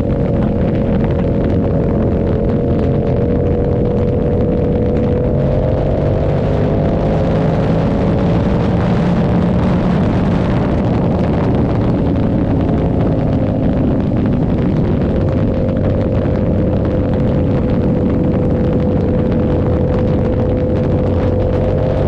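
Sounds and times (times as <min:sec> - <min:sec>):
motorcycle engine cruising: 0:00.0 - 0:22.0
wind noise: 0:00.0 - 0:22.0.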